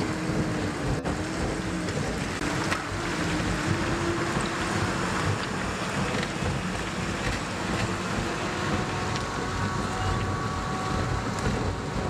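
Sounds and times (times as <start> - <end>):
machinery rumbling and rushing: 0.0 - 12.0.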